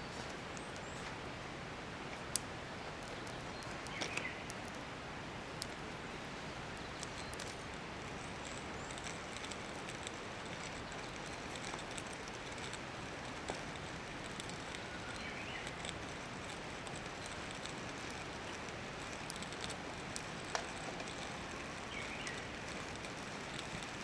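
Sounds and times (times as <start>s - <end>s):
steady outdoor hiss: 0.0s - 24.0s
wood fire crackling: 0.0s - 24.0s.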